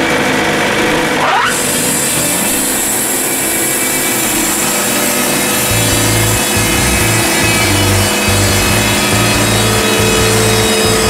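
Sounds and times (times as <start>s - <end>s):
sawmill engine revving: 0.0s - 11.0s
band blade cutting log: 1.1s - 11.0s.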